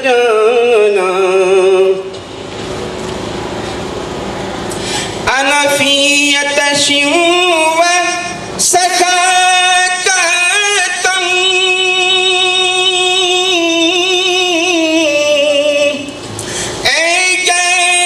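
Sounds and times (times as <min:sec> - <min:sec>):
man singing through a pa system: 0:00.0 - 0:02.1, 0:05.2 - 0:18.0.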